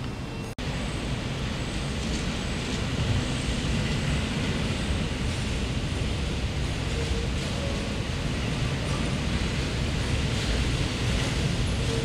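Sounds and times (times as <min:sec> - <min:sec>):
low rumble of rail yard: 0:00.0 - 0:12.0.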